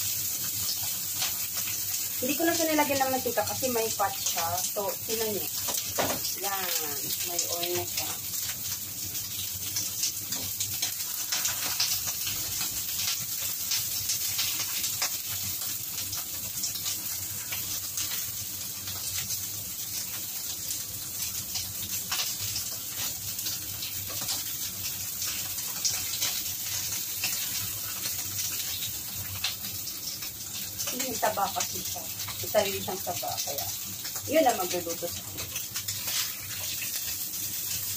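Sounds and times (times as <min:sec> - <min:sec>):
meat sizzling with crackles: 0:00.0 - 0:37.9.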